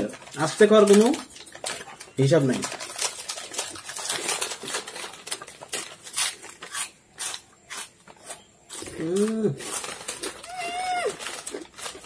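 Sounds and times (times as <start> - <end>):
chips being crunched and chewed: 0.0 - 12.0.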